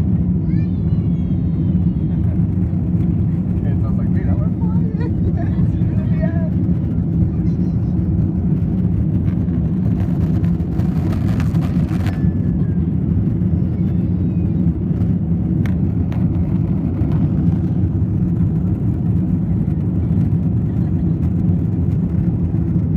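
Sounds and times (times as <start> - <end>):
jet engine rumble in cabin: 0.0 - 22.9.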